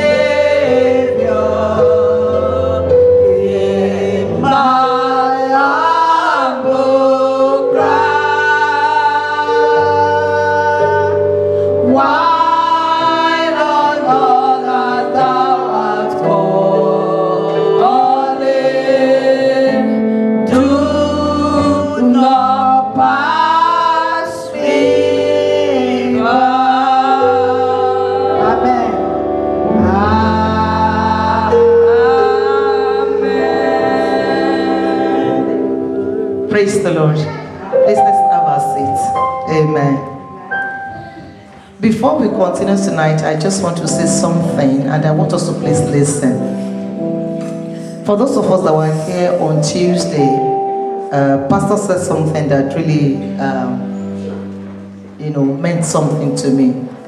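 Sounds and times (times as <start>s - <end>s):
choir singing a gospel song: 0.0s - 57.0s
instrumental accompaniment: 0.0s - 57.0s.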